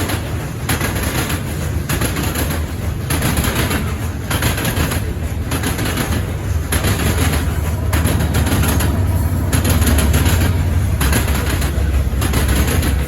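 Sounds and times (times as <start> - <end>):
deep train rumble: 0.0 - 13.0
diesel locomotive: 0.0 - 13.0
train wheel clatter: 0.0 - 13.0.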